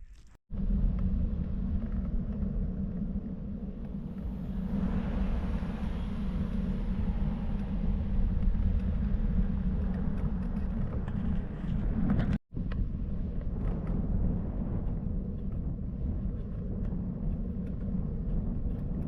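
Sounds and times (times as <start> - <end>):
wind noise: 0.0 - 19.0.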